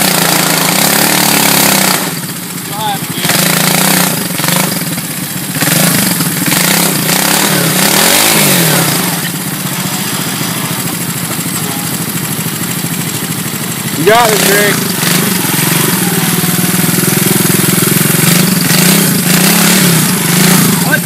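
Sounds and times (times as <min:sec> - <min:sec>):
engine revving under load: 0:00.0 - 0:21.0
tyres churning through mud: 0:00.0 - 0:21.0.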